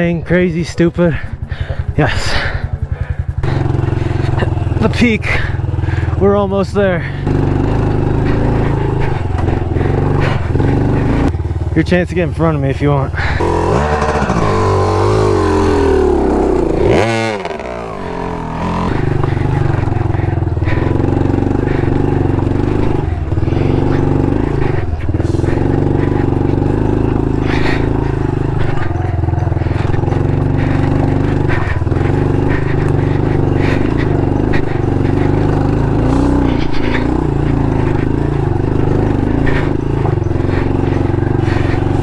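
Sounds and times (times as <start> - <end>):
small motorcycle engine under load: 0.0 - 42.0.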